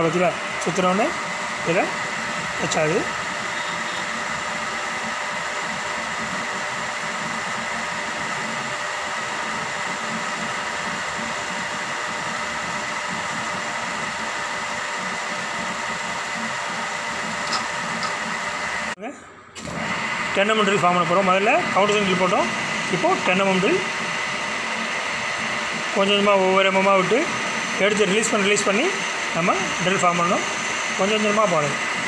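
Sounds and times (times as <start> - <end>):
lathe motor humming and whining: 0.0 - 19.0, 19.6 - 32.0
drill cutting into metal: 0.4 - 19.0, 19.6 - 32.0.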